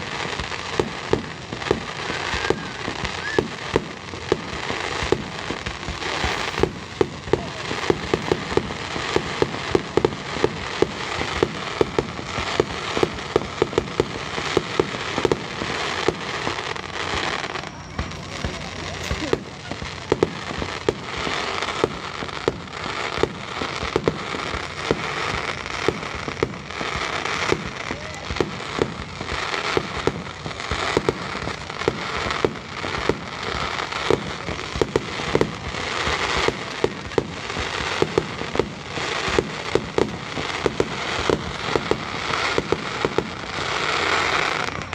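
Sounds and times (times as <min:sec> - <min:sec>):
fireworks bangs: 0:00.0 - 0:44.9
fireworks crackling: 0:00.0 - 0:44.9.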